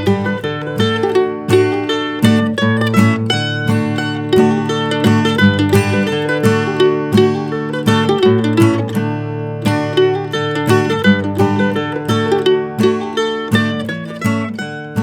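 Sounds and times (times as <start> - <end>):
mandolin picking fiddle tune: 0.0 - 15.0
plucked guitar accompaniment: 0.0 - 15.0.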